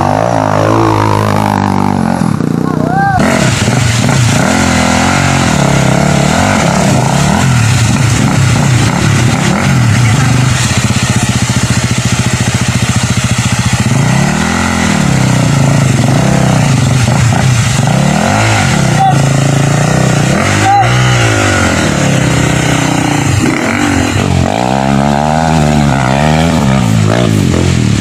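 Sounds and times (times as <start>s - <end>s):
dirt bike engine revving: 0.0s - 28.0s
engine puttering at low revs: 0.0s - 28.0s.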